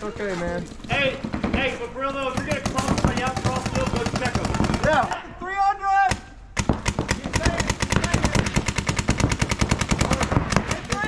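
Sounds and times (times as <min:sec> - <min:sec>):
paintball markers firing: 0:00.9 - 0:05.2, 0:06.1 - 0:11.0.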